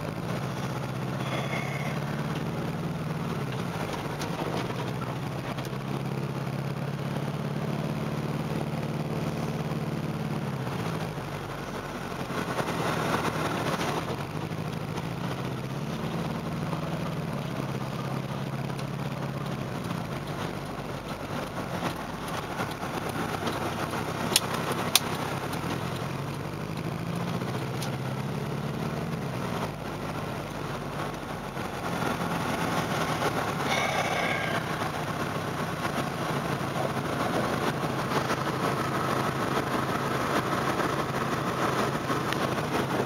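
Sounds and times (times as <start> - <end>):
engine running with a misfire: 0.0 - 43.0.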